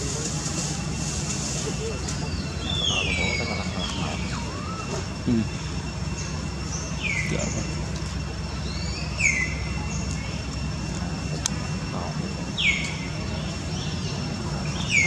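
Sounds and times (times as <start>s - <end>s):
steady low hum: 0.0s - 15.0s
high downward-sweeping animal calls: 1.4s - 15.0s.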